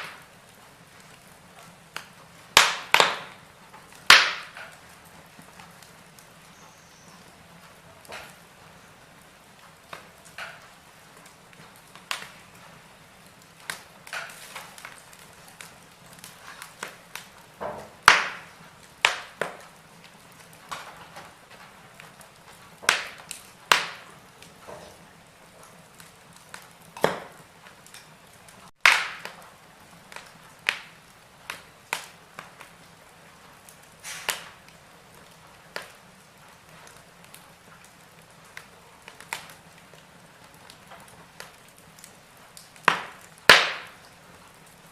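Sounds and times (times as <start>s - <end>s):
faint steady hiss: 0.0s - 44.9s
wood fire crackling: 0.0s - 44.9s.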